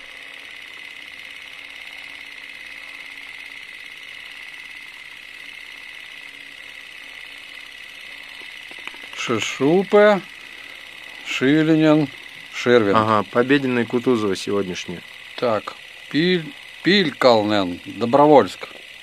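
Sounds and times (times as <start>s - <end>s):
film projector rattle and whir: 0.0s - 19.0s.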